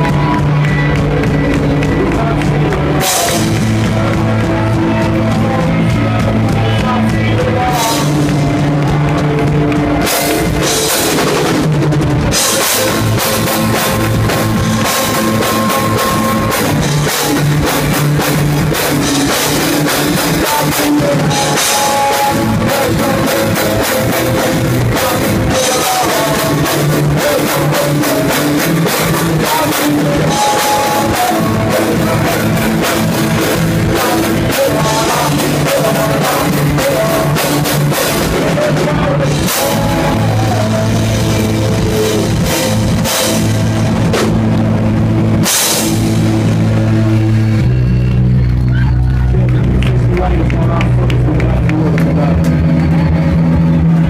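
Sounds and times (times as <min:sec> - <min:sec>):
drum kit: 0:00.0 - 0:54.0
electric guitars strummed: 0:00.0 - 0:54.0.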